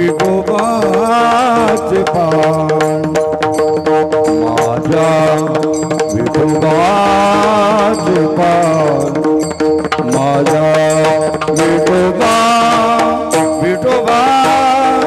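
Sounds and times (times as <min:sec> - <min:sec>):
hand drum accompaniment: 0:00.0 - 0:15.0
man singing: 0:00.0 - 0:15.0
steady held notes: 0:00.0 - 0:15.0.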